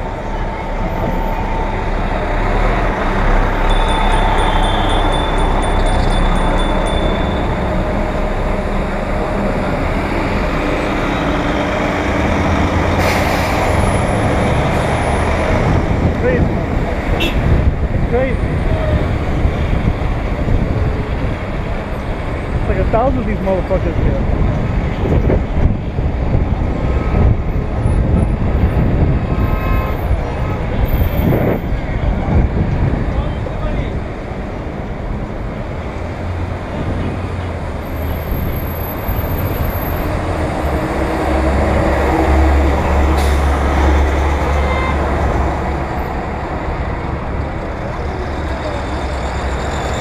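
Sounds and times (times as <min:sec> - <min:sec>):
bus engines idling: 0:00.0 - 0:50.0
street traffic: 0:00.0 - 0:50.0
wind and road noise rumble: 0:00.0 - 0:50.0.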